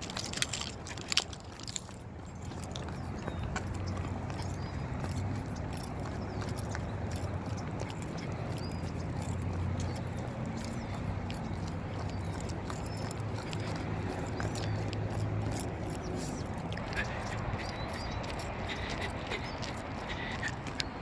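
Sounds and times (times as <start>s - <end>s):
footsteps on paved path: 0.0s - 21.0s.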